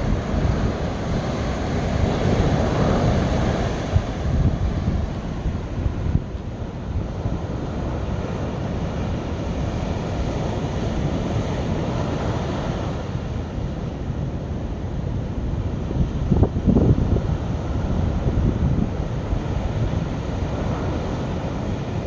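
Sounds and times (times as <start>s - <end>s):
sea waves surf hiss: 0.0s - 22.0s
wind buffeting microphone: 0.0s - 22.0s.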